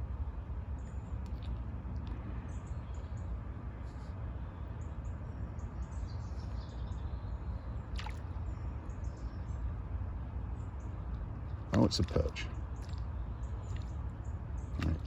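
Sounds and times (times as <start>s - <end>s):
small birds chirping: 0.8s - 15.0s.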